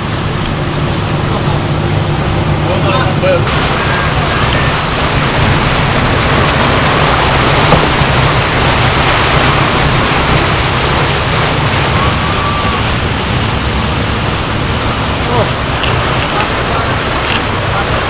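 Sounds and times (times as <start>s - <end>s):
boat wake water rushing: 0.0s - 18.0s
low engine drone: 0.0s - 18.0s.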